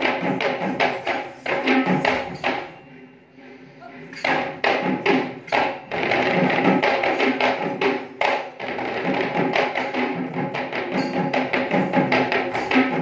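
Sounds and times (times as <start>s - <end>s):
hand drums in fast rhythm: 0.0s - 2.8s, 4.2s - 13.0s.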